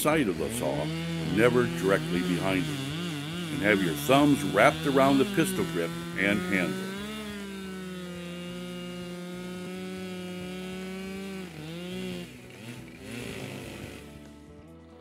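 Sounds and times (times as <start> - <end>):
chainsaw cutting log: 0.0 - 14.6.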